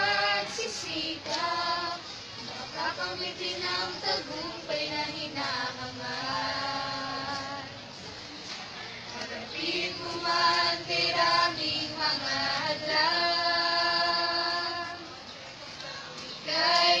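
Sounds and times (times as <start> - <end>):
choir singing a hymn: 0.0 - 8.0, 9.2 - 15.1, 16.4 - 17.0.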